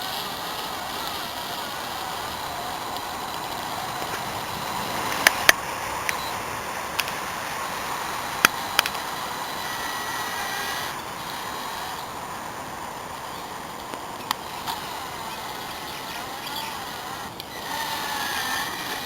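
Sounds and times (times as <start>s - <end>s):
electric motor and gearbox whining: 0.0s - 19.0s
sharp clicks: 0.7s - 7.2s, 8.1s - 12.5s, 13.1s - 19.0s.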